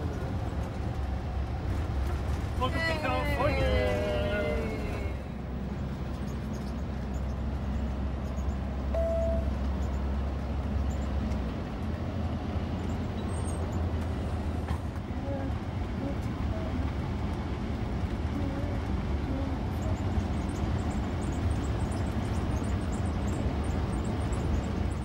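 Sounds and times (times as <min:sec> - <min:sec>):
low road rumble of vehicle: 0:00.0 - 0:25.0.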